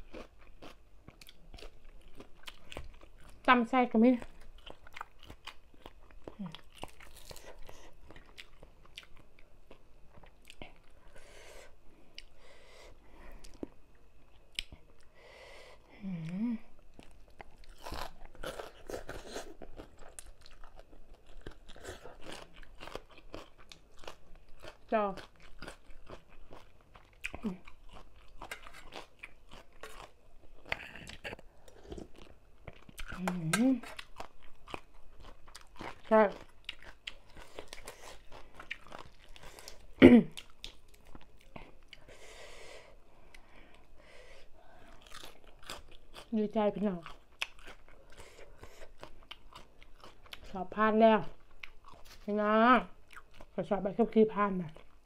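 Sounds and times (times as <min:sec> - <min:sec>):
chewing and crunching food: 0:00.0 - 0:15.1, 0:15.8 - 0:55.0.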